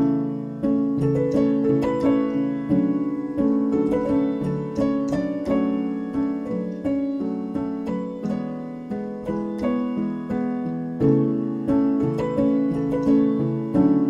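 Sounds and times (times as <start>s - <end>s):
gentle piano-like keyboard tune: 0.0s - 14.0s.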